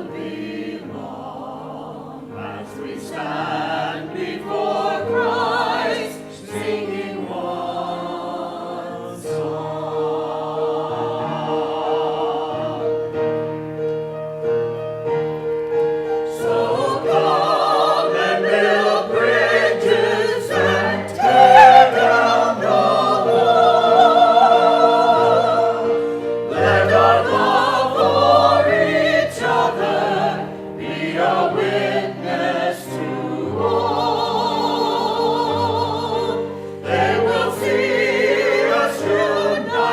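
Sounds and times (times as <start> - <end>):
choir singing a hymn: 0.0 - 13.9, 15.4 - 39.9
keyboard accompaniment: 0.0 - 39.9.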